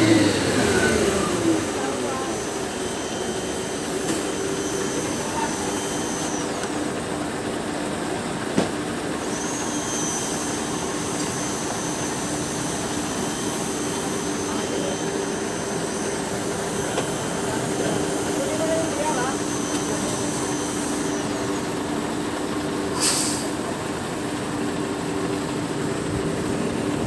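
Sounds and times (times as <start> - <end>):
diesel truck engines running: 0.0 - 27.0.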